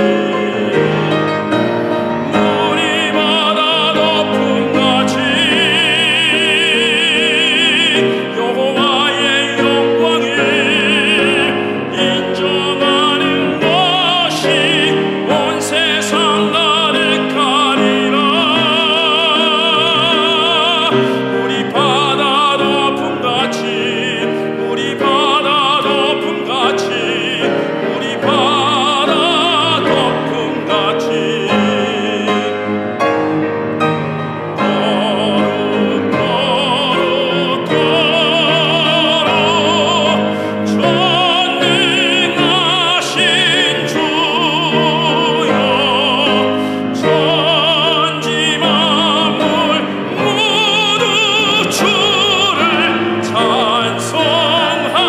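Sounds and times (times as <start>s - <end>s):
man singing operatically: 0.0s - 33.4s, 34.4s - 55.0s
cello: 0.0s - 55.0s
piano: 0.0s - 55.0s.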